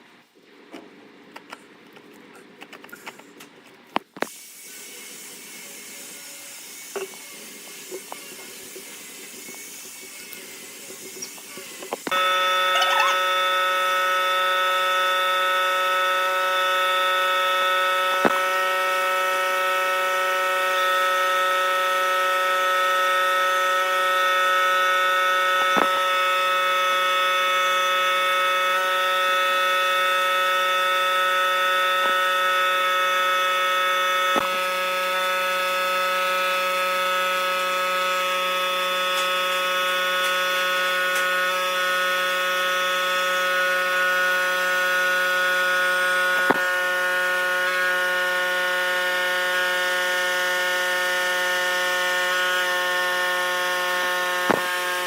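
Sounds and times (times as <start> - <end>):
power tool motor whine: 4.5 - 55.0.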